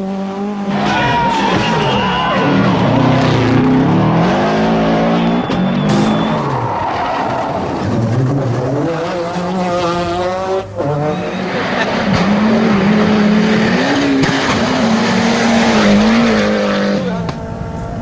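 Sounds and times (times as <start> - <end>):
rally car engine at full throttle: 0.0 - 18.0
tyre skid noise: 0.5 - 18.0.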